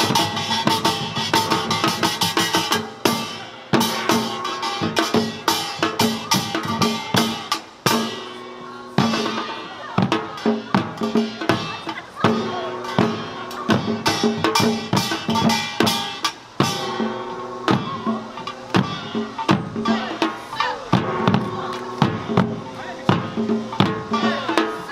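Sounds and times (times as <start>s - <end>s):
hourglass drums struck with sticks: 0.0s - 24.9s.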